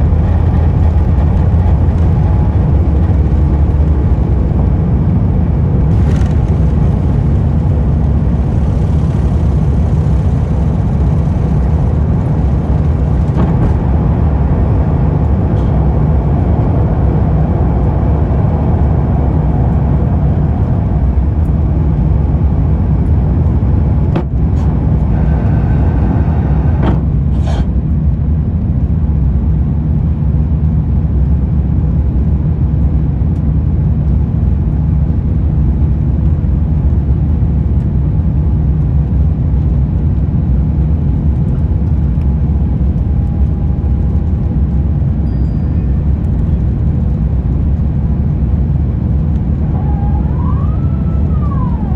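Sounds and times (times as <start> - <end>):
jet engines roaring in cabin: 0.0 - 51.9.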